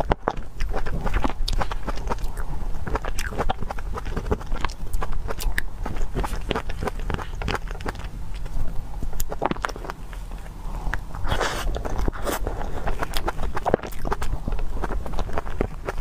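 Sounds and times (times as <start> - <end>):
close-miked chewing and mouth smacks: 0.0 - 16.0
steady low hum: 0.0 - 16.0.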